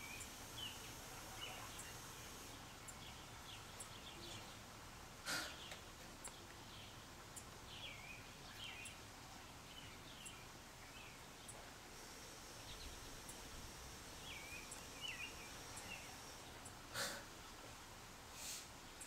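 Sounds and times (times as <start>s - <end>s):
small birds chirping: 0.0s - 19.0s
soft outdoor hiss: 0.0s - 19.0s.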